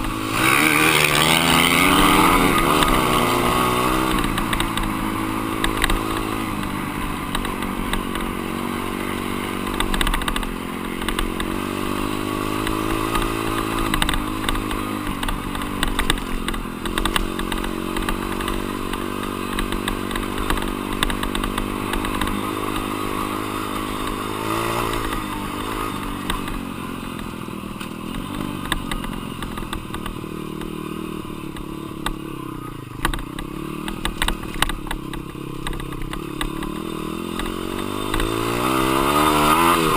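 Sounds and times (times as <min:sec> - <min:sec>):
dirt bike engine revving: 0:00.0 - 0:27.2, 0:27.8 - 0:39.9.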